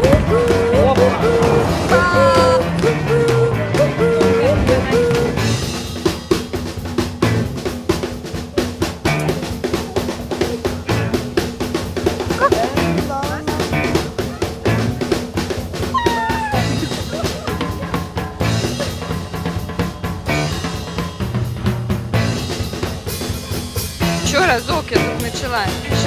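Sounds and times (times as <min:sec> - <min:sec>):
bass line: 0:00.0 - 0:06.0, 0:07.2 - 0:07.7, 0:09.0 - 0:09.8, 0:10.8 - 0:11.6, 0:12.2 - 0:23.1, 0:23.9 - 0:26.0
drum kit beat: 0:00.0 - 0:26.0.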